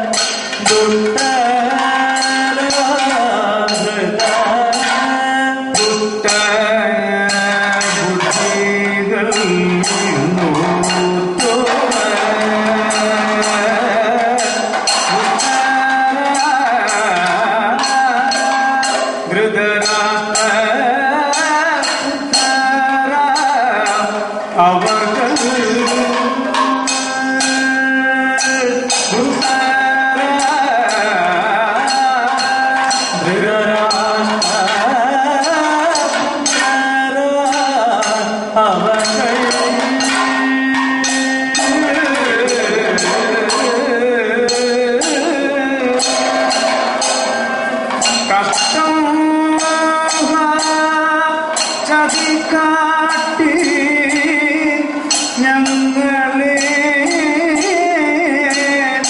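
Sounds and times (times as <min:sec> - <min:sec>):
continuous percussion: 0:00.0 - 0:59.0
person singing melodic line: 0:00.0 - 0:59.0
sharp metallic strikes: 0:00.0 - 0:59.0.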